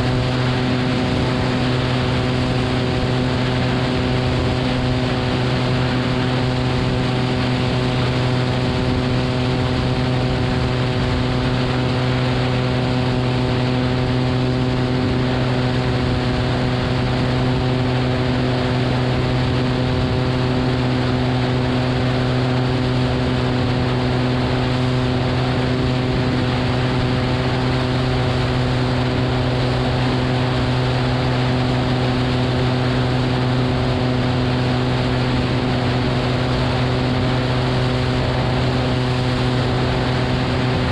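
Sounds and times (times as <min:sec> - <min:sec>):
airplane engine and propeller drone: 0:00.0 - 0:40.9.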